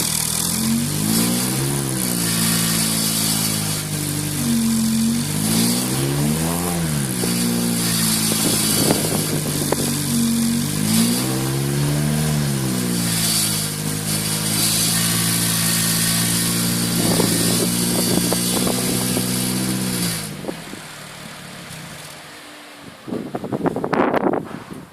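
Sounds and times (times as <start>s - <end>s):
car engine idling and revving: 0.0s - 24.9s
exhaust crackling: 0.0s - 24.9s.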